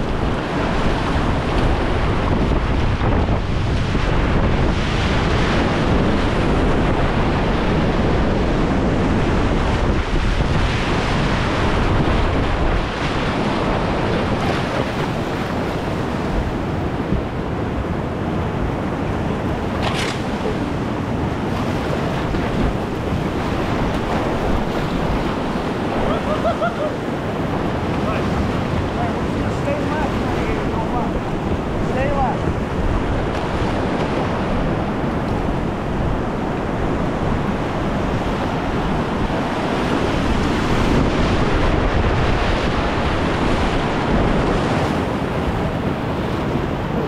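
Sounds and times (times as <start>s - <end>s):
river whitewater rushing: 0.0s - 47.0s
wind buffeting microphone: 0.0s - 47.0s.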